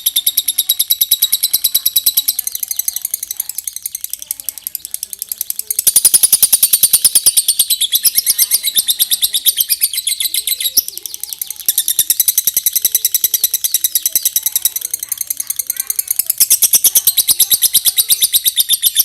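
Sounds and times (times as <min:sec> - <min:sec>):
lovebird shrill chattering song: 0:00.0 - 0:19.0.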